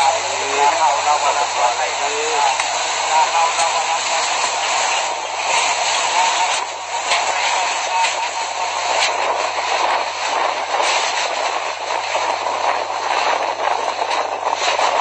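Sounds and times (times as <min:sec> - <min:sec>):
strong wind rushing: 0:00.0 - 0:15.0.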